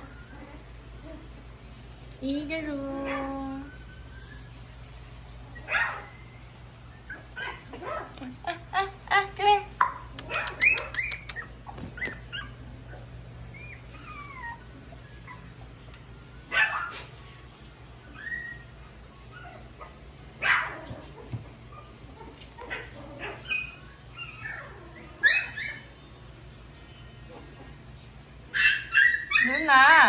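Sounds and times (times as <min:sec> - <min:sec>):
puppies whining and yelping: 0:00.0 - 0:01.8, 0:02.9 - 0:26.5, 0:27.2 - 0:30.0.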